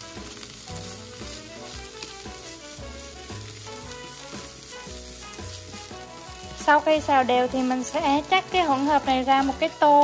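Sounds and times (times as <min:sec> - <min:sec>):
chopsticks stirring food: 0:00.0 - 0:10.0
food sizzling in a frying pan: 0:00.0 - 0:10.0
soft background music: 0:00.0 - 0:10.0.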